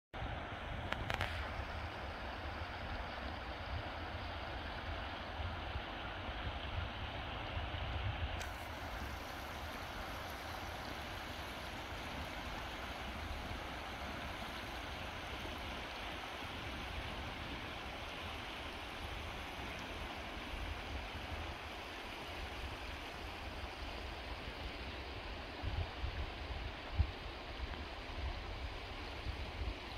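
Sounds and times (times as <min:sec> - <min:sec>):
river water running over rocks: 0:00.2 - 0:29.9.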